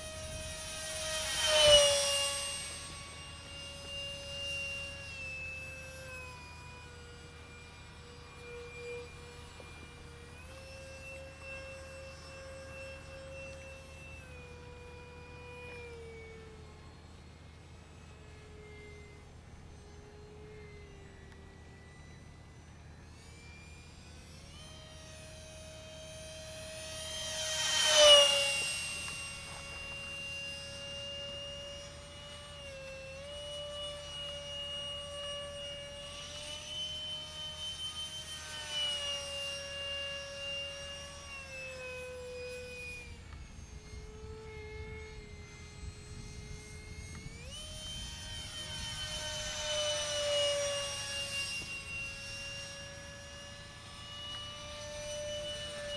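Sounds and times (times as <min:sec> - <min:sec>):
electric ducted fan whining: 0:00.0 - 0:55.9.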